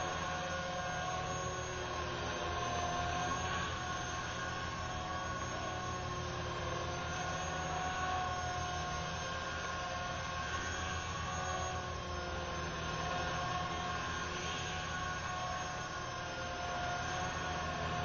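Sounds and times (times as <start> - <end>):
helicopter motor whine: 0.0 - 18.0.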